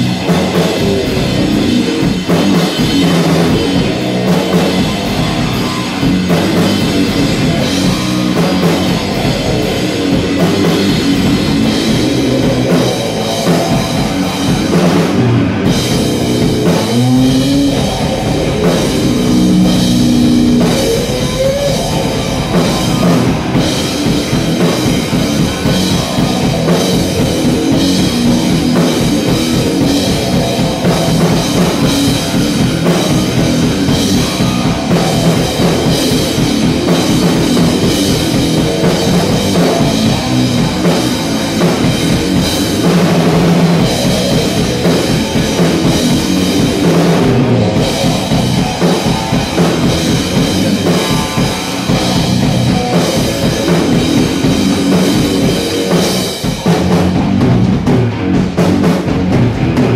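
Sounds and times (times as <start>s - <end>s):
drum kit beat: 0.0s - 59.9s
electric guitar riffing: 0.0s - 59.9s.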